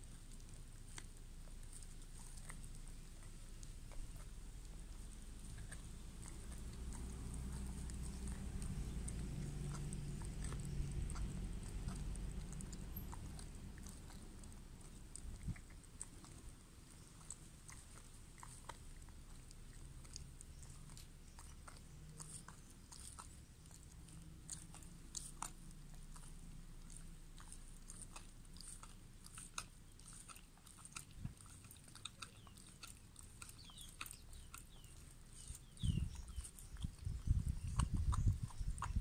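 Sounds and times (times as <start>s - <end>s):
dog chewing raw meat: 0.0s - 39.0s.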